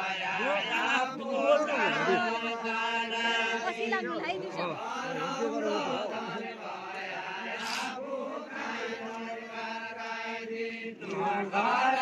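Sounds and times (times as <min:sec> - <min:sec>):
men singing together: 0:00.0 - 0:12.0.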